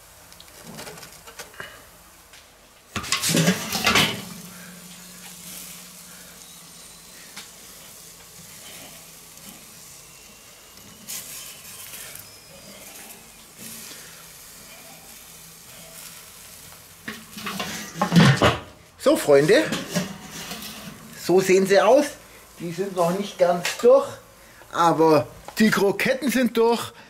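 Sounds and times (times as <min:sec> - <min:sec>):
meat sizzling on a grill: 0:00.0 - 0:27.0.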